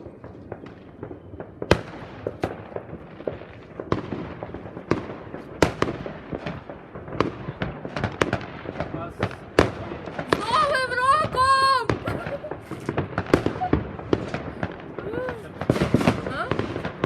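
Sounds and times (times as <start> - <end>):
distant fireworks crackling: 0.0 - 17.0
firework bangs: 0.0 - 17.0.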